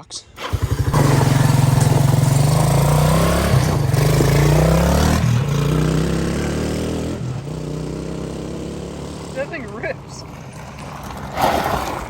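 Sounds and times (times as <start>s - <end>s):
small engine revving unevenly: 0.4s - 12.0s.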